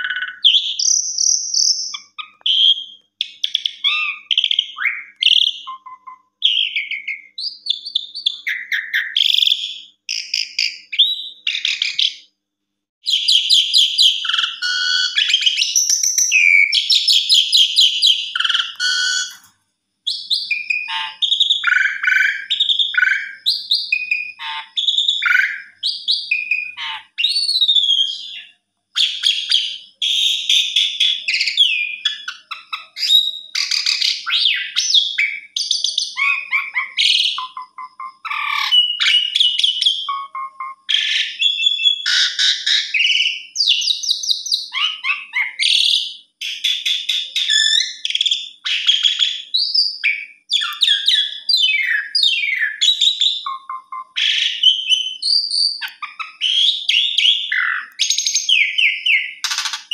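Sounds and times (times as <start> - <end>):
starling singing: 0.0 - 12.3, 13.0 - 19.5, 20.1 - 59.9.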